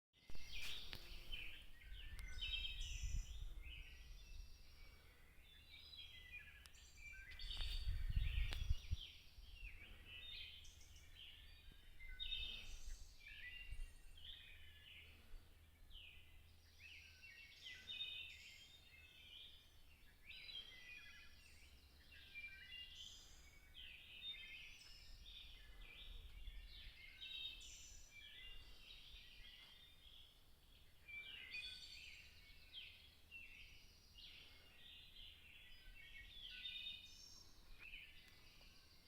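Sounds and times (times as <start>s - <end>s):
songbirds chirping and singing: 0.2s - 39.0s.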